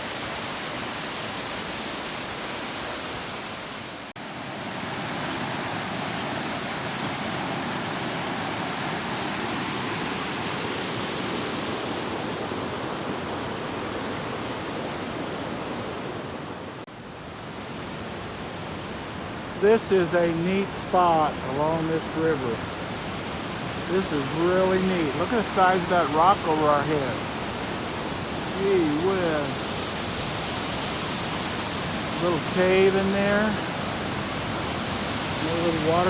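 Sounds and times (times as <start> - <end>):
waterfall and river rushing: 0.0 - 36.0.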